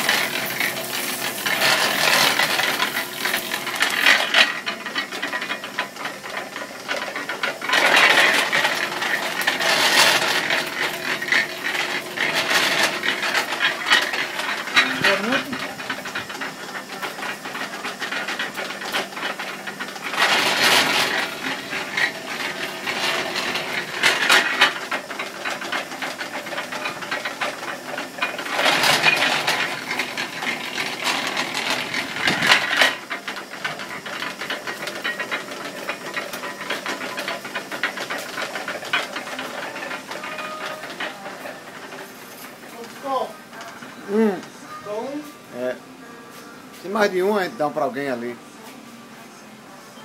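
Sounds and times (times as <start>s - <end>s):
rollers crushing sugarcane: 0.0s - 49.0s
cane mill humming: 0.0s - 50.0s.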